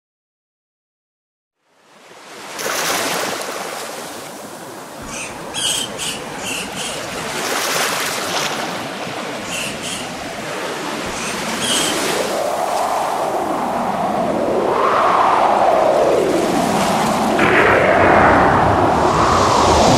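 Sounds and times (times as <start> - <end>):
ocean surf washing in: 2.0 - 19.9.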